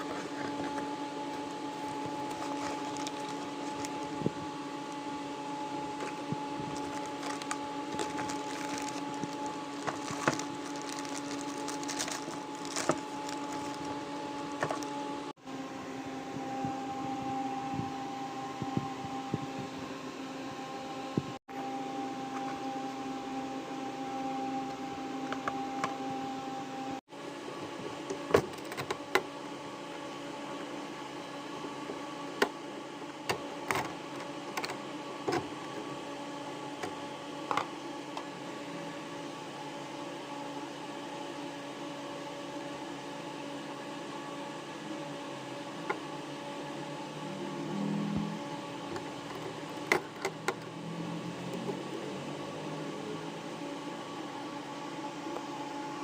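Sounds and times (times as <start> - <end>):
mechanical hum with tones: 0.0 - 56.0.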